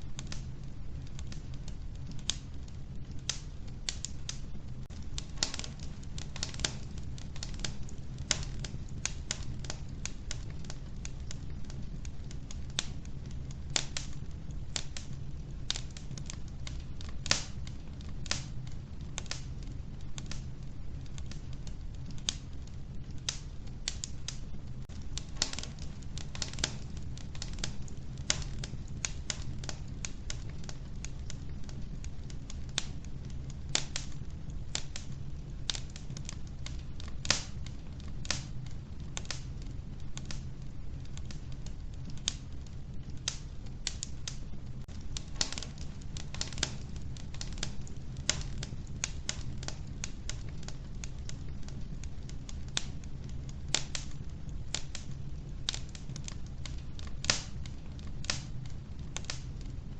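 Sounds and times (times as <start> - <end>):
wood fire crackling in a stove: 0.0 - 59.9.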